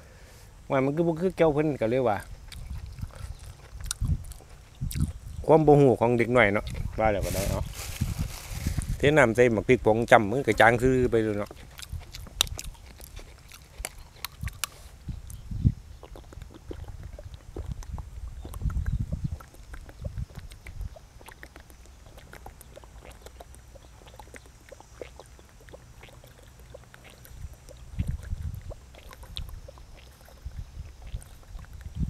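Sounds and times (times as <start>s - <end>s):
faint cicada drone: 0.0s - 32.0s
chewing and smacking: 1.2s - 7.7s, 10.0s - 32.0s.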